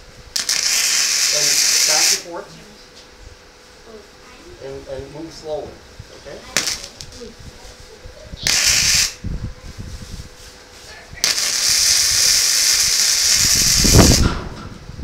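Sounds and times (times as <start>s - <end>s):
welder arc crackling and hissing: 0.0s - 3.2s, 4.8s - 9.4s, 10.2s - 14.6s.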